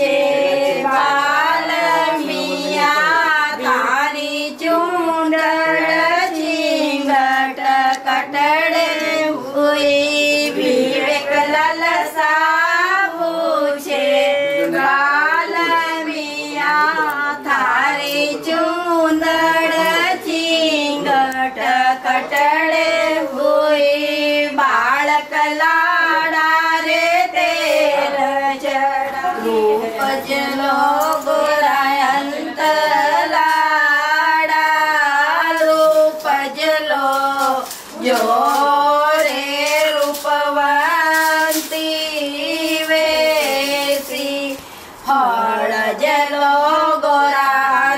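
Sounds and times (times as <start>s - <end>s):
high voices singing: 0.0s - 47.9s.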